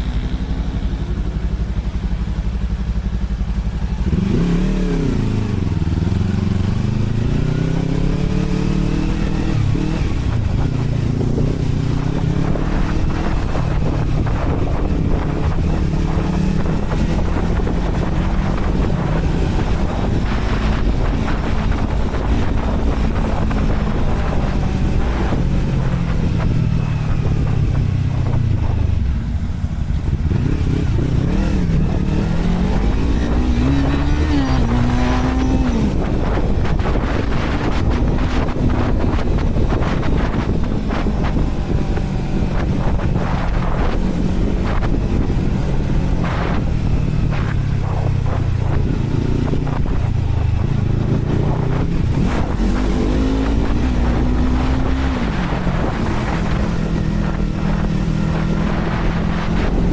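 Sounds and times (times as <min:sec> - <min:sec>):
motorcycle engine revving: 0:00.0 - 0:59.9
wind buffeting microphone: 0:00.0 - 0:59.9.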